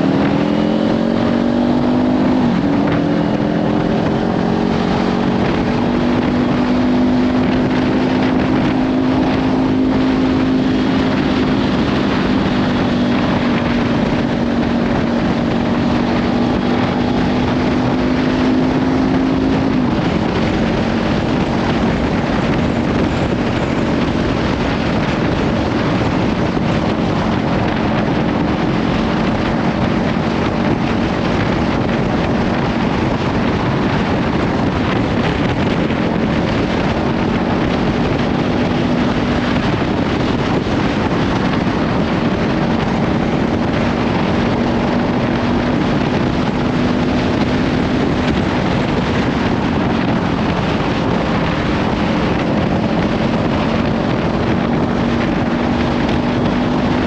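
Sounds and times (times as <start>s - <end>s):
motorcycle engine cruising: 0.0s - 57.0s
wind buffeting microphone: 0.0s - 57.0s.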